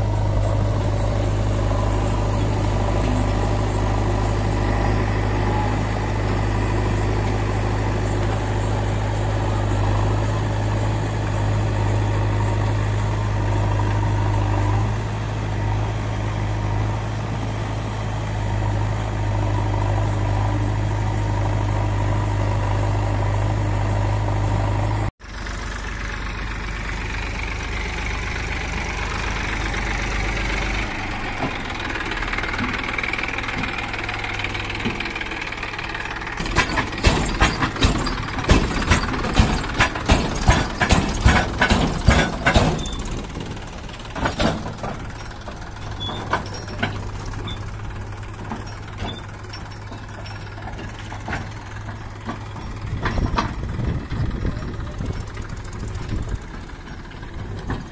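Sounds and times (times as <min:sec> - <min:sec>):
diesel engines running: 0:00.0 - 0:57.9
tractor diesel engine running: 0:00.0 - 0:57.9.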